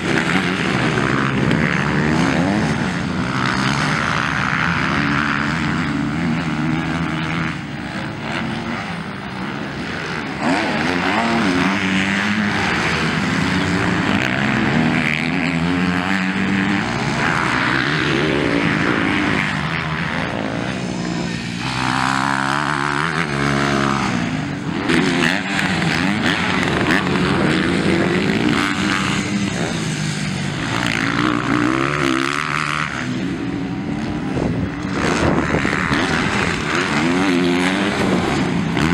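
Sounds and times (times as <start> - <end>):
motocross engines revving: 0.0 - 38.9.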